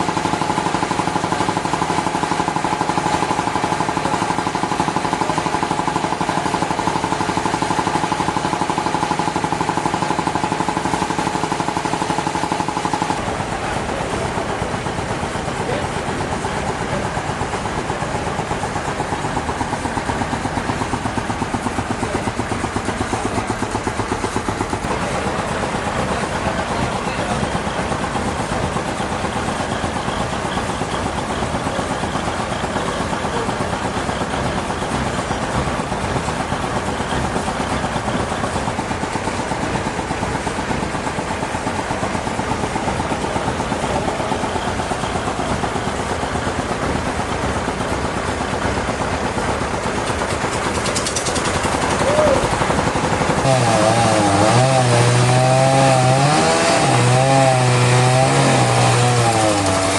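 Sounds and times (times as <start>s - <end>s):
sawmill machinery engine running: 0.0s - 59.9s.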